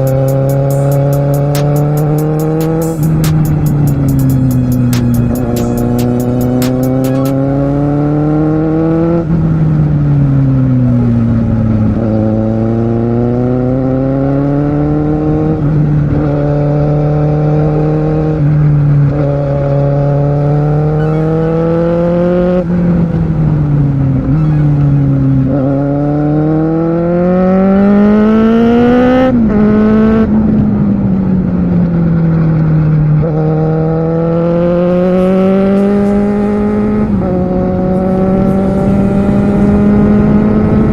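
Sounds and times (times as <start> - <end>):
motorcycle engine revving: 0.0 - 30.9, 32.2 - 40.9
wind and road noise: 0.0 - 40.9.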